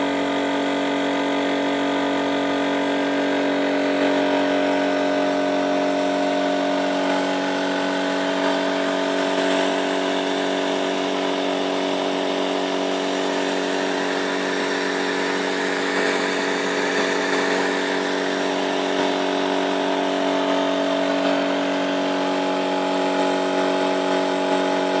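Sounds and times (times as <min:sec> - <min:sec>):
air compressor running: 0:00.0 - 0:25.0
model turbofan spinning: 0:00.1 - 0:25.0.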